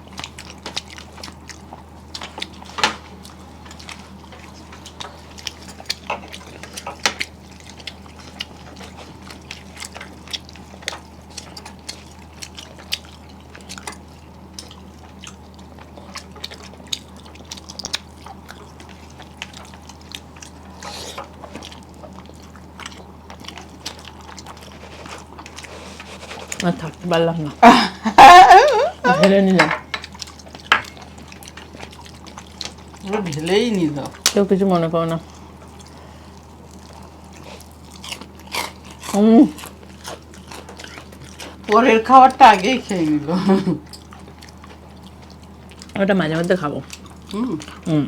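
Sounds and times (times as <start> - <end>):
chewing and wet mouth noises: 0.0 - 27.6, 28.3 - 48.0
steady low hum: 0.0 - 48.0.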